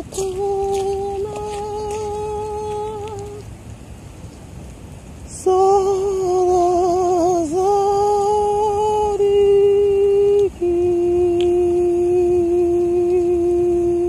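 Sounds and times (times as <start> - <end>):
person humming held notes: 0.0 - 3.4, 5.3 - 14.0.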